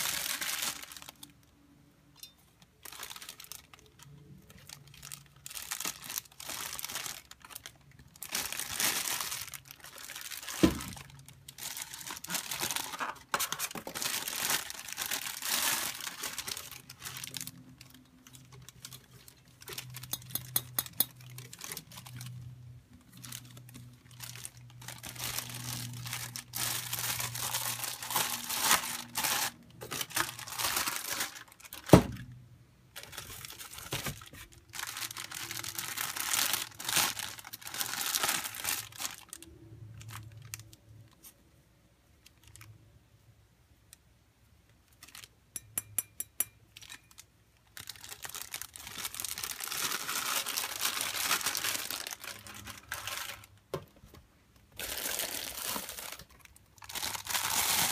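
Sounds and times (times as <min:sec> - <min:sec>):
plastic packaging crinkling: 0:00.0 - 0:41.3, 0:42.2 - 0:42.7, 0:44.8 - 0:45.4, 0:46.8 - 0:57.9.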